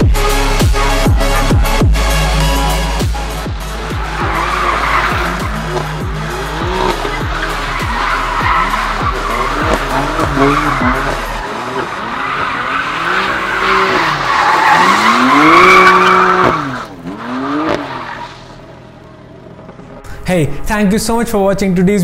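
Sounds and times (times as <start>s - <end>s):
car engine revving: 0.0s - 20.1s
tyres screeching: 0.8s - 18.8s.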